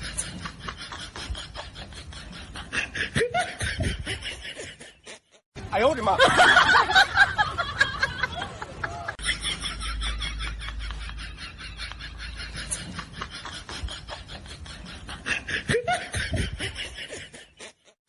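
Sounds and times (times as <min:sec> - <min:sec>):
person laughing and snickering: 0:00.0 - 0:05.5, 0:08.4 - 0:18.0.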